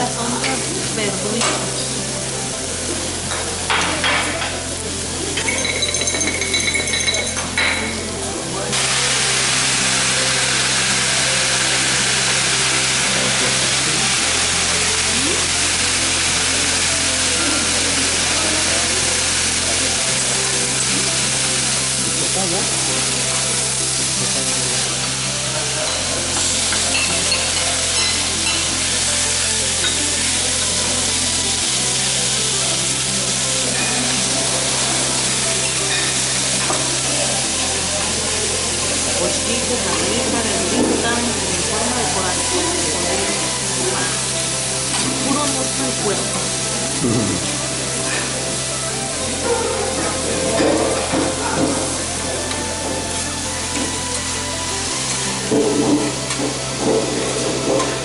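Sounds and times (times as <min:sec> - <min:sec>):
background music tones: 0:00.0 - 0:58.0
loud sizzling hiss: 0:00.0 - 0:58.0.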